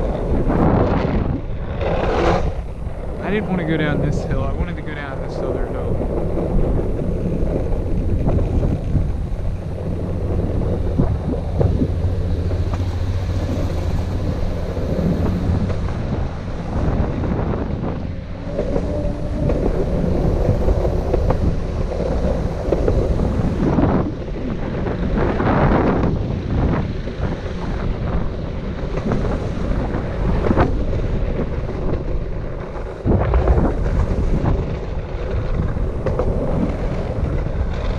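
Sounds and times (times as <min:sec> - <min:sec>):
skateboard wheels rumbling on concrete: 0:00.0 - 0:37.9
wind buffeting microphone: 0:00.0 - 0:37.9.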